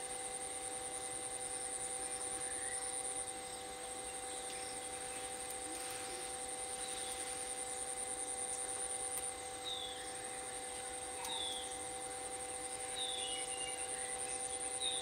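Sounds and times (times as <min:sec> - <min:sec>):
constant low hum: 0:00.0 - 0:15.0
high-pitched insect buzz: 0:00.0 - 0:15.0.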